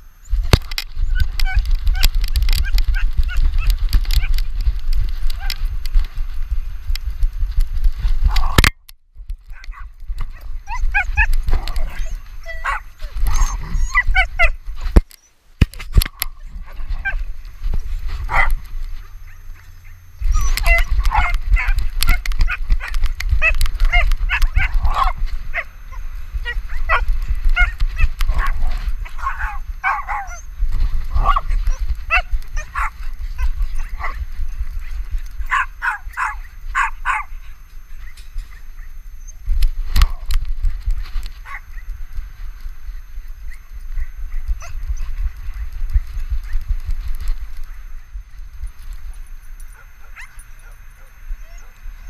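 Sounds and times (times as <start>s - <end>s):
low rumble of camera bouncing: 0.0s - 52.0s
dogs barking and yipping: 0.2s - 6.4s, 9.4s - 52.0s.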